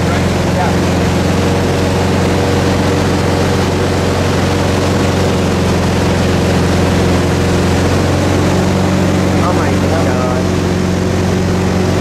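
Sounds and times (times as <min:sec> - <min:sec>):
motorboat engine running: 0:00.0 - 0:12.0.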